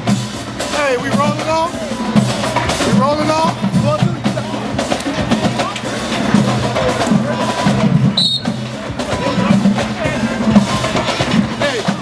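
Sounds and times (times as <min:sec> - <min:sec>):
drums and percussion strikes: 0:00.0 - 0:12.0
held low brass notes: 0:00.0 - 0:12.0
marching band playing: 0:00.0 - 0:12.0.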